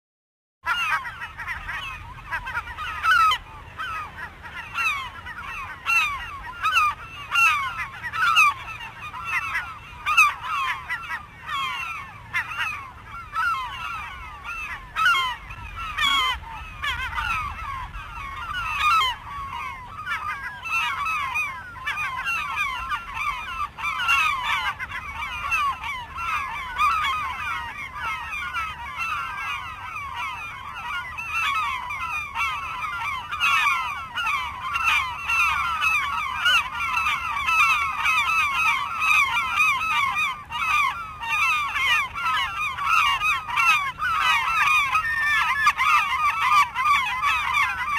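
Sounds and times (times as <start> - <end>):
flock of birds calling: 0.7 - 47.9.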